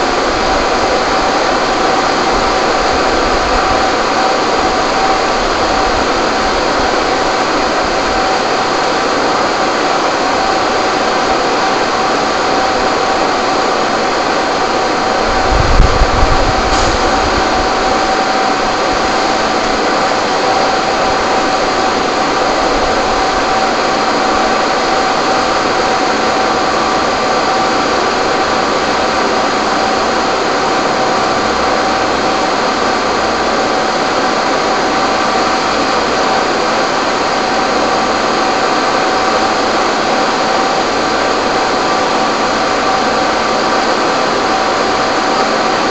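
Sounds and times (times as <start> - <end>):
machine hiss and hum: 0.0 - 45.9.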